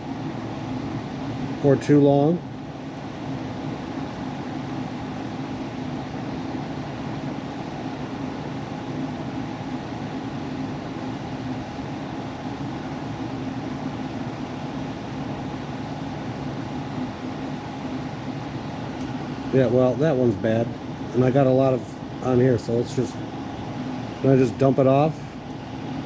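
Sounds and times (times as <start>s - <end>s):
extractor fan humming: 0.0s - 26.0s.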